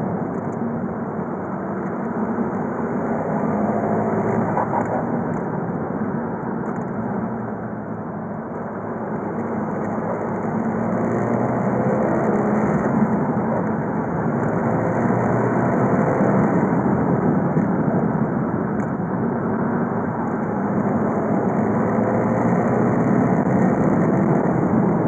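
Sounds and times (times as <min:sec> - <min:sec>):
diesel engine drone: 0:00.0 - 0:25.0
road noise: 0:00.0 - 0:25.0.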